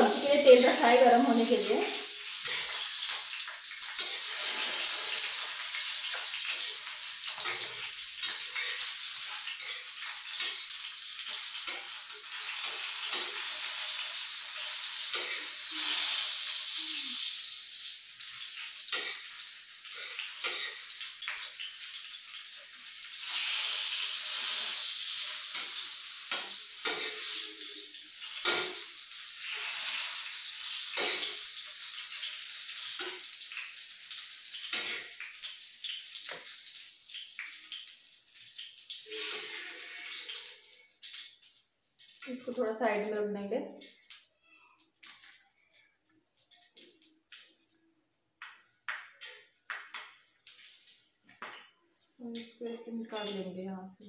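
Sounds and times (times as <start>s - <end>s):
chillies sizzling in hot oil: 0.0s - 54.0s.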